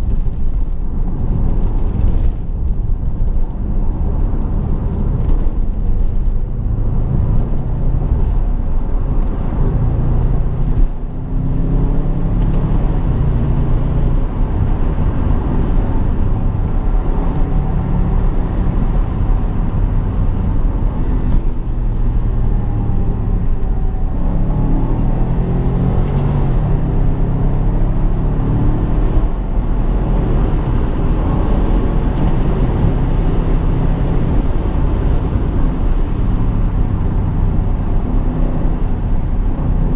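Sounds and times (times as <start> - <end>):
car engine rumbling: 0.0 - 39.9
road noise: 0.0 - 39.9.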